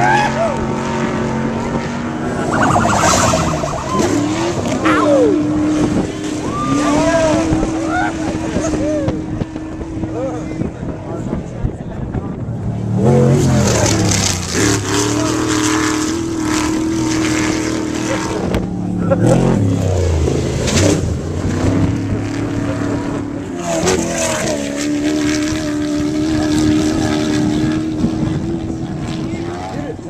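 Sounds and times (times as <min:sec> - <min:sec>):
off-road engines revving hard: 0:00.0 - 0:02.3, 0:04.0 - 0:30.0.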